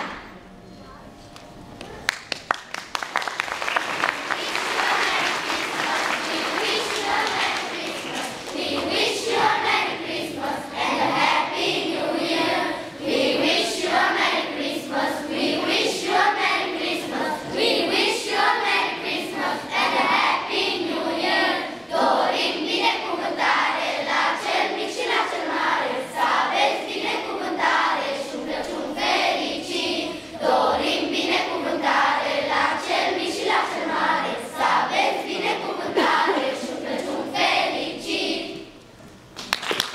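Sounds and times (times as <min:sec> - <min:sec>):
children's choir singing: 0:00.0 - 0:00.4, 0:03.5 - 0:38.8.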